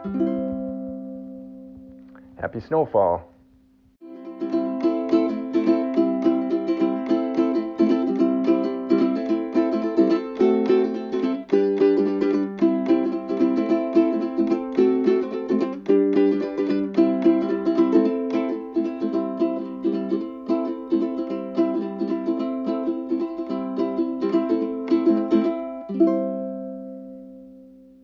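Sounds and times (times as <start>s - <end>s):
ukulele strumming: 0.0s - 2.0s, 4.0s - 27.8s.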